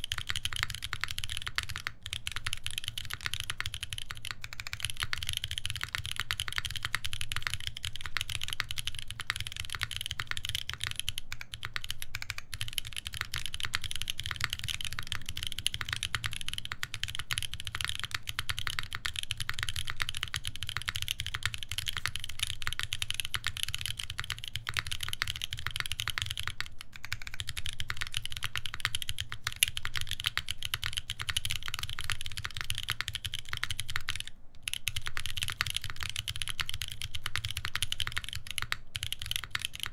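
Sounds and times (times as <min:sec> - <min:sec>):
fast typing on mechanical keyboard: 0:00.0 - 0:39.9
keystroke clacks: 0:00.0 - 0:39.9.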